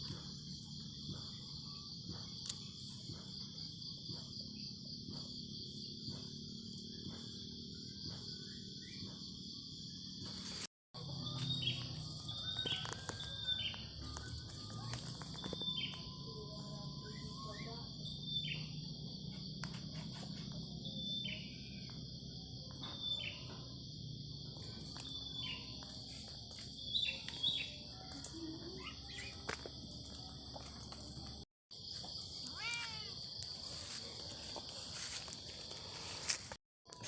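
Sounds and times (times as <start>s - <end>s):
high-pitched insect drone: 0.0s - 37.0s.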